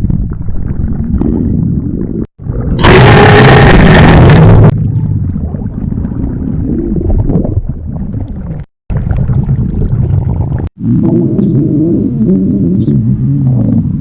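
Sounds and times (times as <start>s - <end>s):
stomach growling and gurgling: 0.0s - 14.0s.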